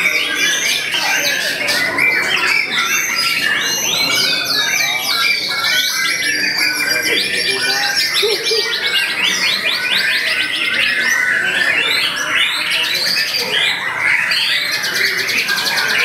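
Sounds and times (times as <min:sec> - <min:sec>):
bird singing trills and whistles: 0:00.0 - 0:16.0.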